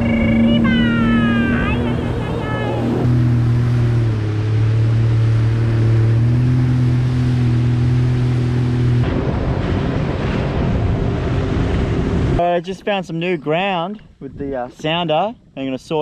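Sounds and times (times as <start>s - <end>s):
jet ski engine humming: 0.0s - 16.0s
wind: 0.0s - 16.0s.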